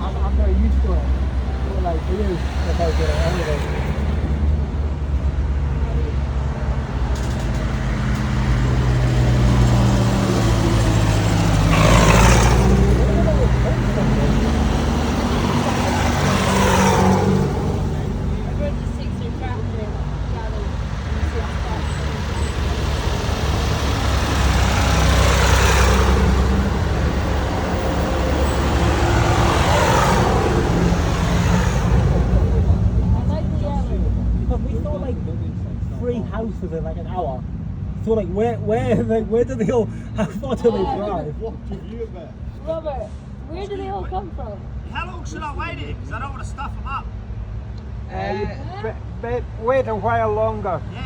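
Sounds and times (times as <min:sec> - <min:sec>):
vehicle engine droning: 0:00.0 - 0:48.0.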